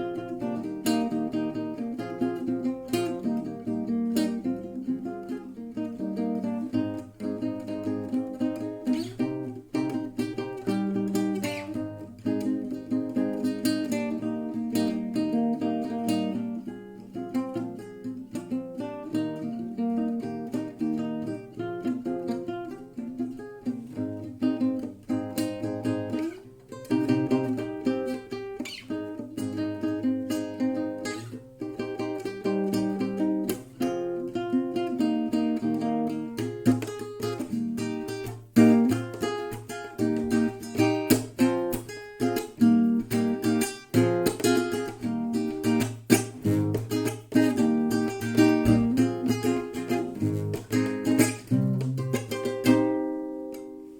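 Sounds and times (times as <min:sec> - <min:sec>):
acoustic guitar playing chords: 0:00.0 - 0:53.9.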